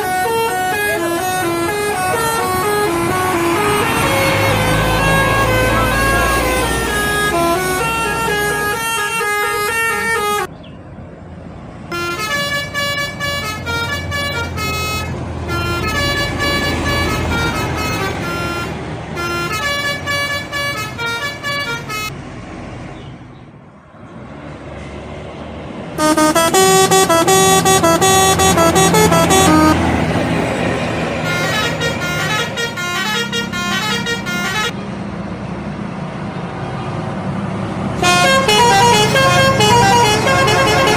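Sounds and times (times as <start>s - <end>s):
multi-tone bus horns playing tunes: 0.0s - 10.6s, 11.9s - 22.2s, 26.0s - 35.0s, 37.9s - 40.9s
low rumble of bus engines: 0.0s - 40.9s.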